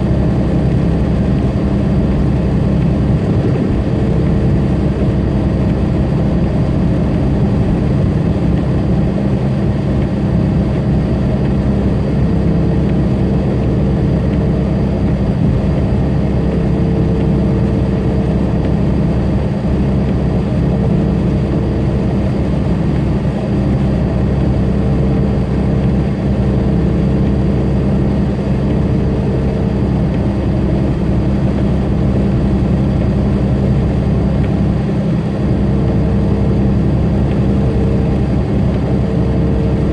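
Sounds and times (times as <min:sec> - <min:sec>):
diesel engine drone: 0:00.0 - 0:39.9
road noise: 0:00.0 - 0:39.9.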